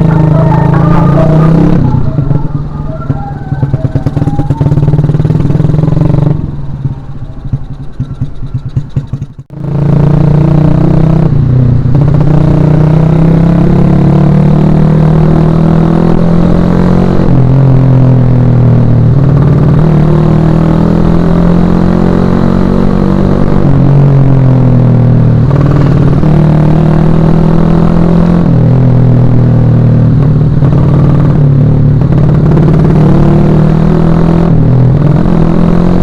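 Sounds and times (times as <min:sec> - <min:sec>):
motorcycle engine while riding: 0:00.0 - 0:36.0.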